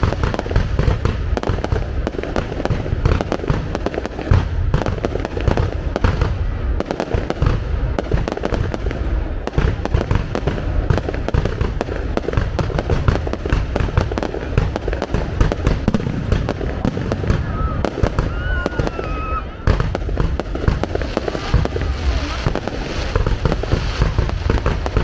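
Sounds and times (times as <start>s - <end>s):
fireworks booms and cracks: 0.0s - 25.0s.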